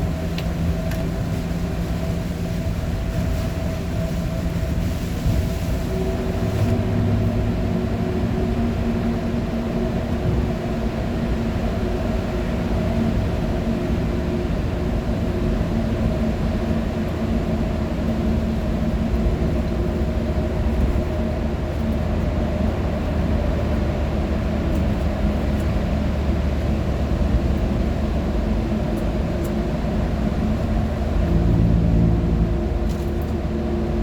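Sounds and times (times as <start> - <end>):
road noise: 0.0 - 34.0
vehicle engine hum: 0.0 - 34.0.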